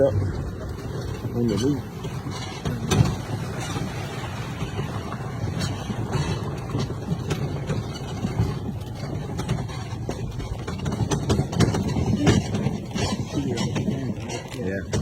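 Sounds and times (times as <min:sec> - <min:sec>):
sharp knocks and rattles: 0:00.0 - 0:15.0
utility vehicle engine rumbling: 0:00.0 - 0:15.0.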